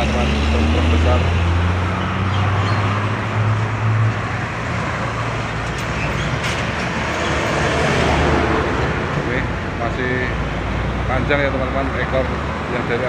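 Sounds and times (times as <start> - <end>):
diesel trucks passing: 0.0 - 13.0
road and tyre noise: 0.0 - 13.0.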